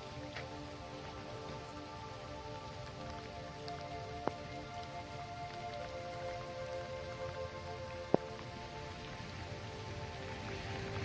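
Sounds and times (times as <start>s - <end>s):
heavy rain on a road: 0.0s - 11.0s
soft sustained tones: 0.0s - 11.0s.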